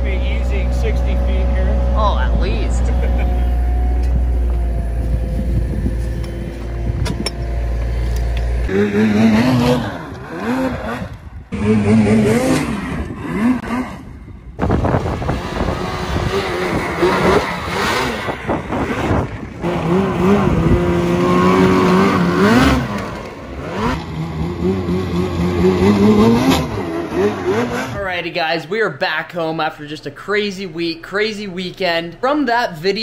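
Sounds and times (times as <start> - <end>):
snowmobile engines revving: 0.0 - 29.6.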